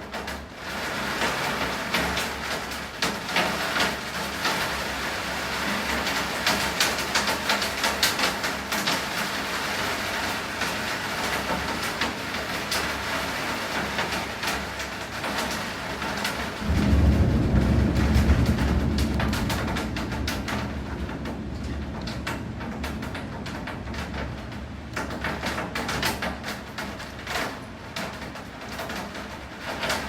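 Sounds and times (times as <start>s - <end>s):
rain drops tapping on hard surfaces: 0.0s - 30.0s.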